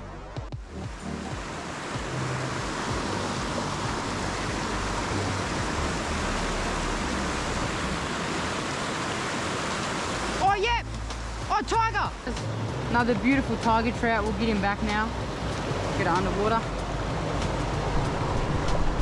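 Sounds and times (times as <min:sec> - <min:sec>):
river rapids rushing over rocks: 0:00.6 - 0:19.0.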